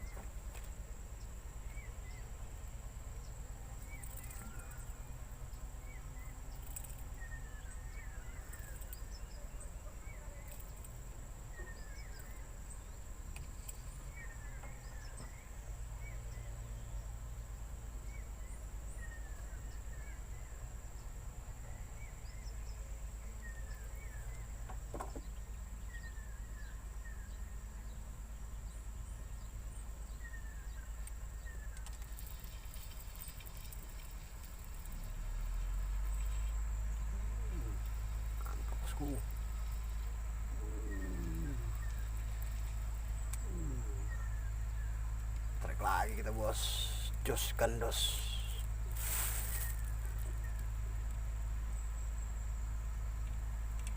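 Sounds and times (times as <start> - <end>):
insects droning: 0.0 - 53.9
bird chirping: 3.2 - 53.9.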